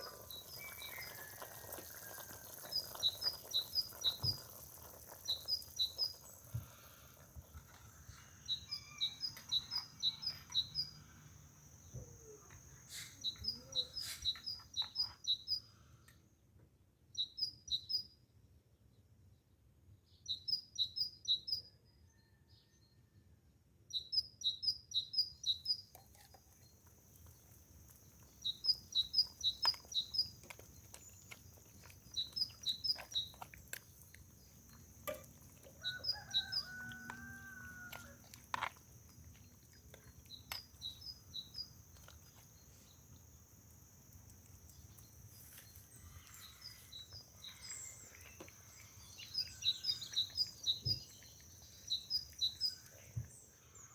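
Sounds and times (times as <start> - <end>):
songbird high chirps: 0.0 - 16.2, 17.1 - 18.2, 20.1 - 23.2, 23.9 - 53.9.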